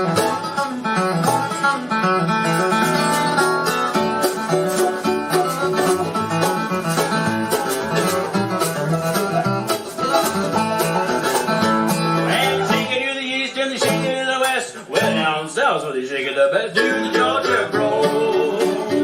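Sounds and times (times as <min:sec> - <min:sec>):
guitar picking: 0:00.0 - 0:15.5, 0:16.8 - 0:19.0
washtub bass line: 0:00.0 - 0:15.5, 0:16.8 - 0:19.0
banjo picking: 0:00.0 - 0:19.0.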